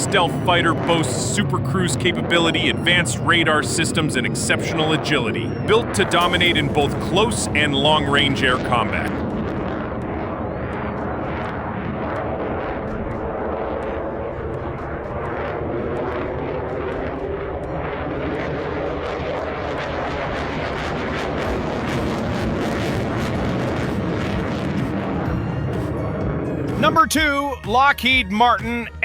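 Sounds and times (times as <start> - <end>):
fighter jet engine: 0.0 - 27.2.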